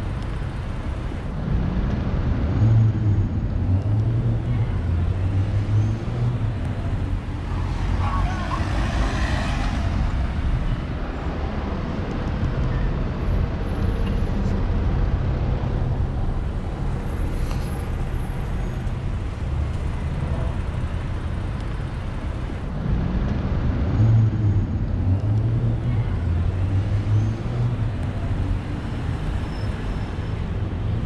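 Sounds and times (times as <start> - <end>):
cars and buses rumbling by: 0.0 - 31.0.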